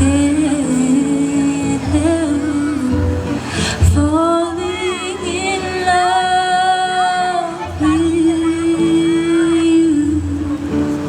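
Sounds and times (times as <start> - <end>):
person singing: 0.0 - 10.7
acoustic guitar: 0.0 - 11.0.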